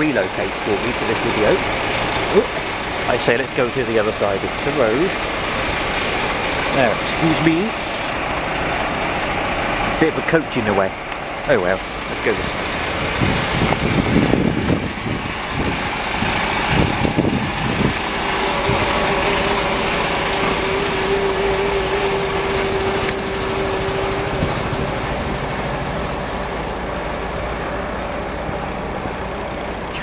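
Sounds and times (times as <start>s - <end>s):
diesel engine idling: 0.0s - 30.0s
steady hum: 0.0s - 30.0s.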